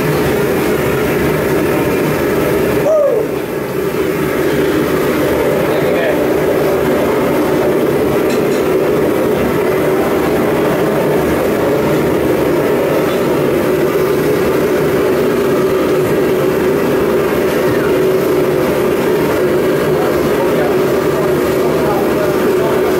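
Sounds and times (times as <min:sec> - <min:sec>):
forge roaring: 0:00.0 - 0:22.9.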